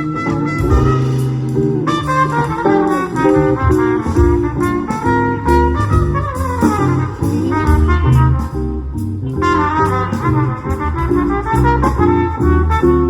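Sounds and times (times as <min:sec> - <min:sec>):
swing jazz band: 0:00.0 - 0:13.0
trumpet melody: 0:00.0 - 0:13.0
walking bass line: 0:00.0 - 0:13.0.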